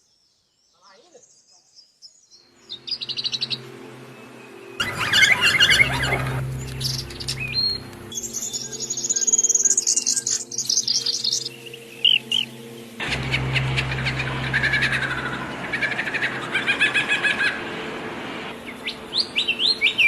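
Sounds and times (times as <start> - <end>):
birds chirping and trilling: 0.0 - 20.0
soft background music drone: 2.2 - 20.0.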